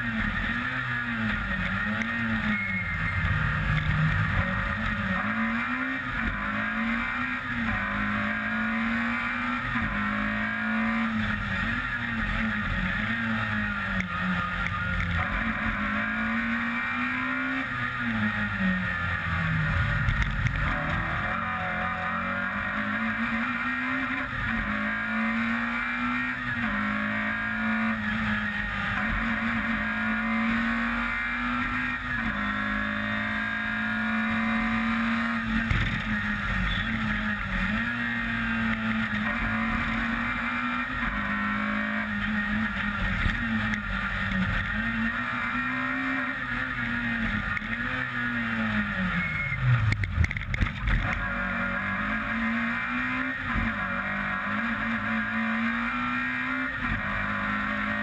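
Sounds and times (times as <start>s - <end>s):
rally car engine at high revs: 0.0s - 58.0s.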